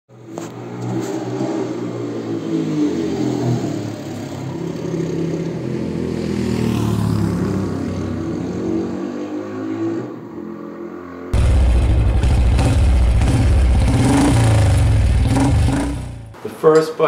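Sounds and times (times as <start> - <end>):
motorcycle engine revving: 0.6 - 16.4.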